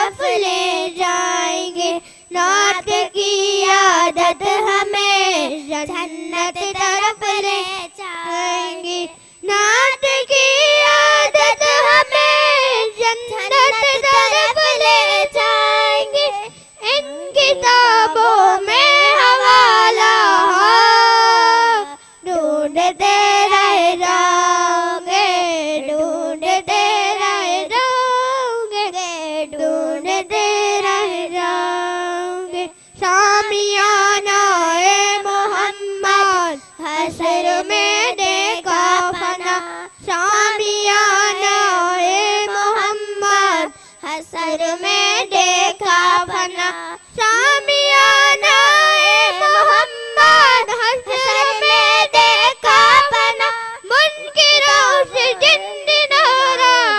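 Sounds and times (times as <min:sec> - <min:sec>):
girl singing devotional song: 0:00.0 - 0:56.9.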